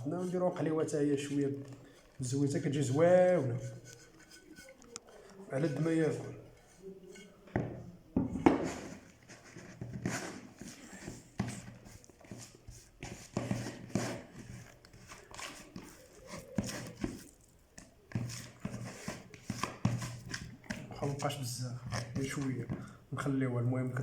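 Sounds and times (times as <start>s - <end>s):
utensil knocking in a bowl: 3.5s - 23.0s.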